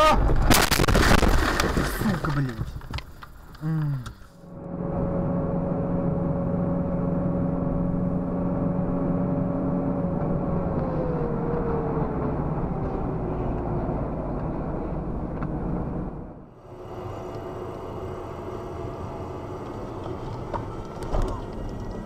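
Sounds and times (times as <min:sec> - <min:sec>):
engine and road noise in cabin: 0:03.6 - 0:22.0.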